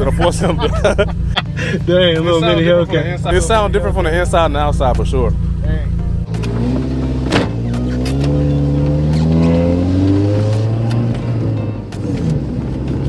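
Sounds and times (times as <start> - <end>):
car engine accelerating hard: 0.0 - 13.0
supercharger whine: 2.0 - 13.0.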